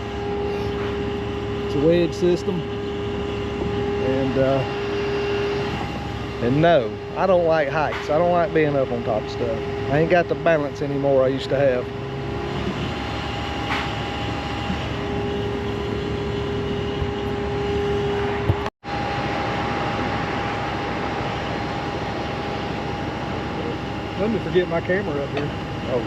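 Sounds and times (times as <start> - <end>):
machine drone with hum: 0.0 - 26.0.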